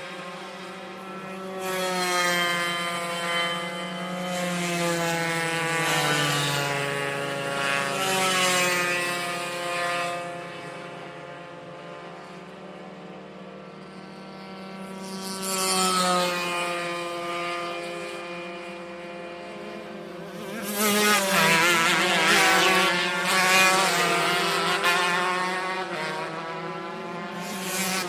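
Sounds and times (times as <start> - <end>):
go-kart engines passing by: 0.0 - 28.0.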